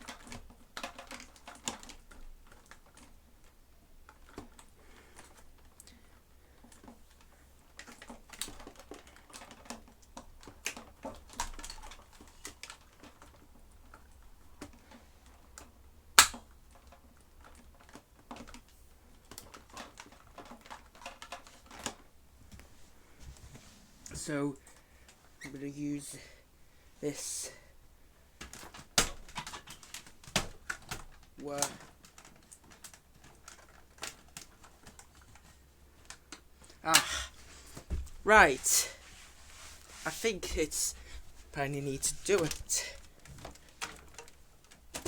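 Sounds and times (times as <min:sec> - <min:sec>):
plastic parts clicking and knocking: 0:00.0 - 0:22.7, 0:27.8 - 0:38.9, 0:40.1 - 0:45.0.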